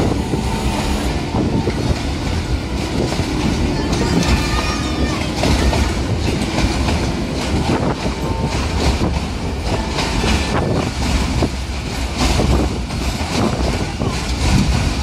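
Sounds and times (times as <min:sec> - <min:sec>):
train rumbling: 0:00.0 - 0:15.0
wheels clattering over rails: 0:00.0 - 0:15.0.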